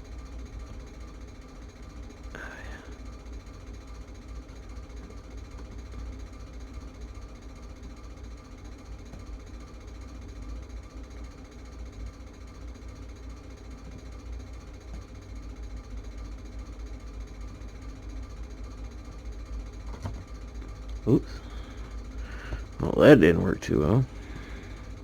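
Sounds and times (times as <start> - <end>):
low-pitched buzzing hum: 0.0 - 25.0.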